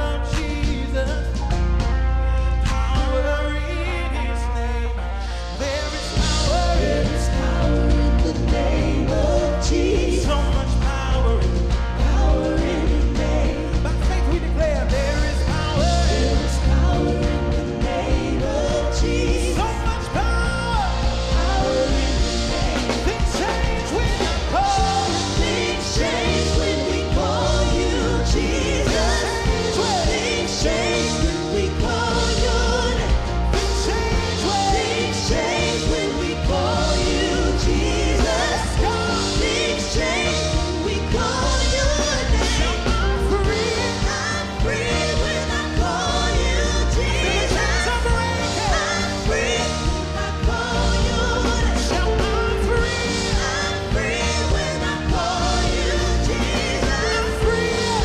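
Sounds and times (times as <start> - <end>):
worship song with full band: 0.0 - 58.0.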